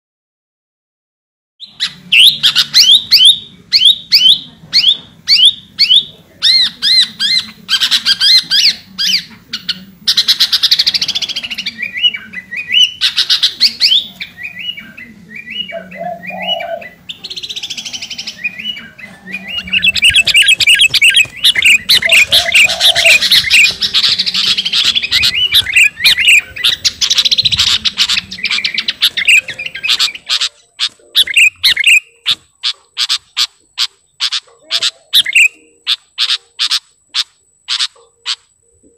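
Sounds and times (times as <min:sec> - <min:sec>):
bird whistling and chattering: 0:01.6 - 0:38.5.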